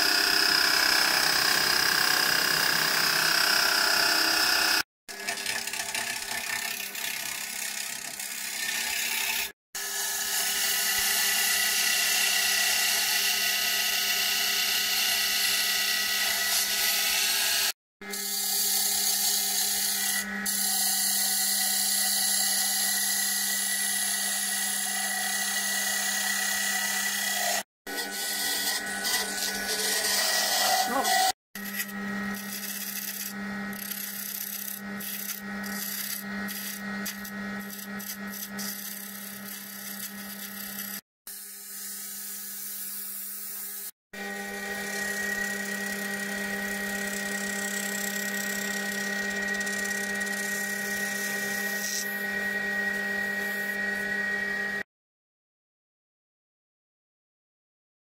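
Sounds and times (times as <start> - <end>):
turning tool shaving wood: 0.0 - 41.0, 44.2 - 54.8
wood lathe motor humming: 0.0 - 42.4, 44.2 - 54.8
drilling spinning wood: 0.0 - 54.8.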